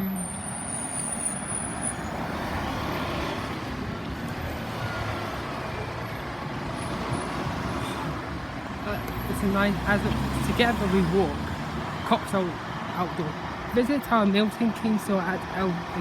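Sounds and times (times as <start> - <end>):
bus diesel engine and road noise: 0.0 - 16.0.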